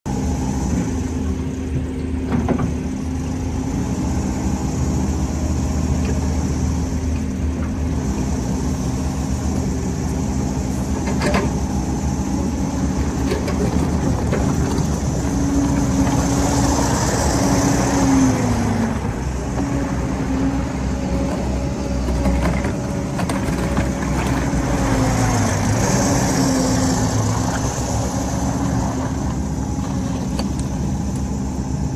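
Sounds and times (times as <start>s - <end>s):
diesel engine running: 0.1s - 31.9s.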